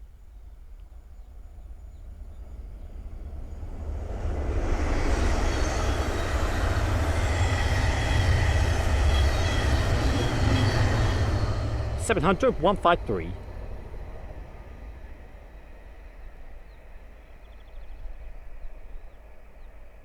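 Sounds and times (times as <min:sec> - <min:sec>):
train passing at speed: 0:02.4 - 0:20.0.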